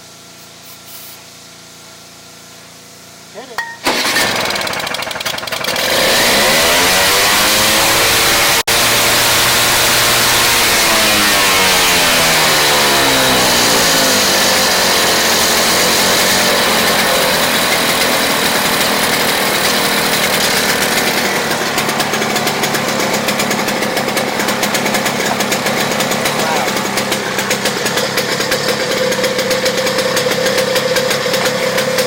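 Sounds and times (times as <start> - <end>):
snowblower engine running: 1.6 - 32.0.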